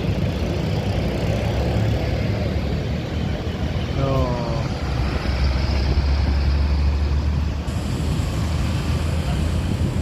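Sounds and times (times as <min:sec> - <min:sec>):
heavy vehicle engine rumble: 0:00.0 - 0:10.0
road noise: 0:00.0 - 0:10.0.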